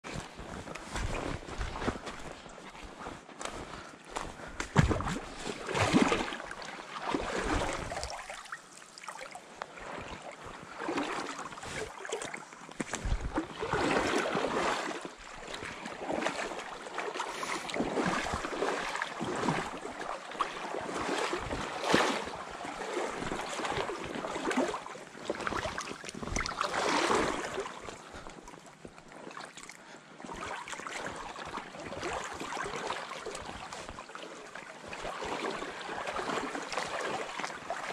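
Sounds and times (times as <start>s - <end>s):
water sloshing around legs: 0.1s - 37.9s.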